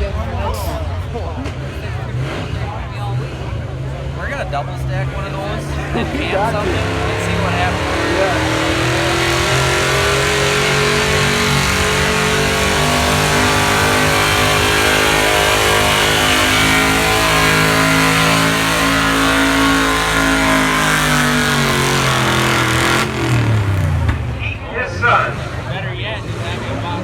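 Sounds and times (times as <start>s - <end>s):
pickup truck engine at full throttle: 0.0s - 27.0s.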